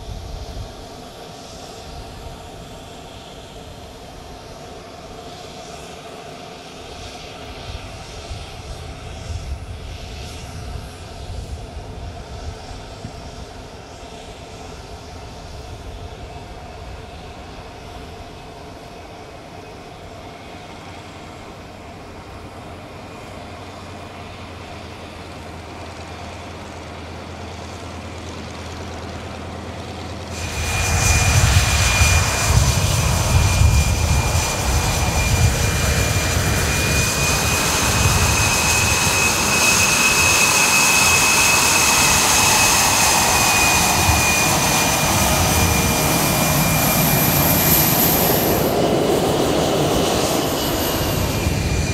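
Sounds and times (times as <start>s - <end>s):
jet engine hum: 0.0s - 51.9s
loud jet noise with high whine: 0.0s - 51.9s.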